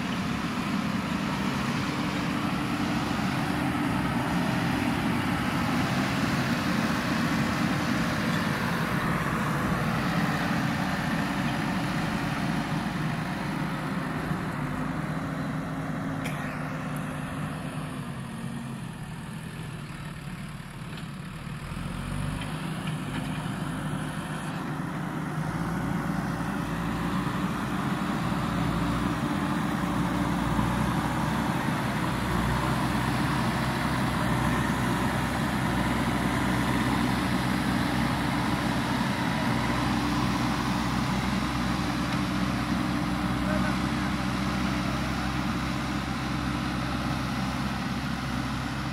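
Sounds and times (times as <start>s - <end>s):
diesel engine under load: 0.0s - 48.9s.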